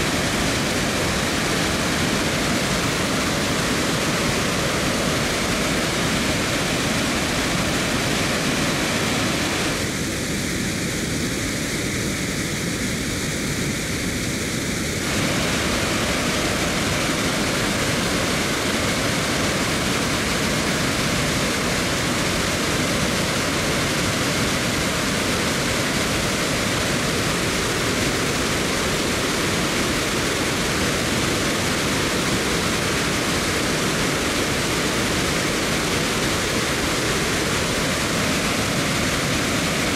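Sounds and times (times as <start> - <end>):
water rushing down spillway: 0.0 - 39.9.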